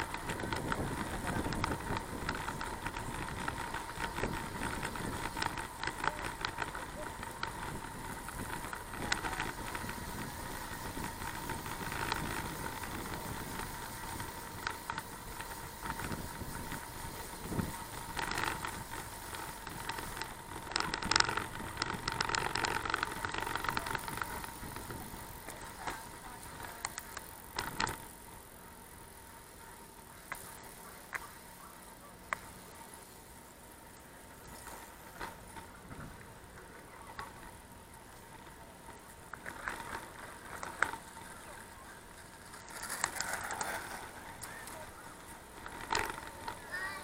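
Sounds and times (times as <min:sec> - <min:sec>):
bicycle rattles and clicks: 0:00.0 - 0:47.0
faint steady whine: 0:00.0 - 0:47.0
road and wind noise: 0:00.0 - 0:47.0.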